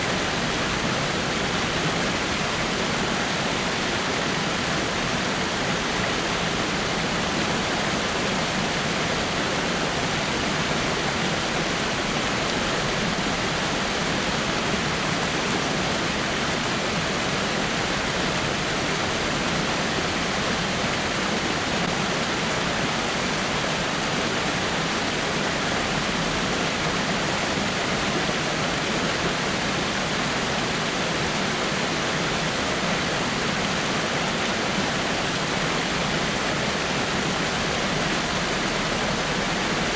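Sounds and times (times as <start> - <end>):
water falling over rocks: 0.1 - 39.9.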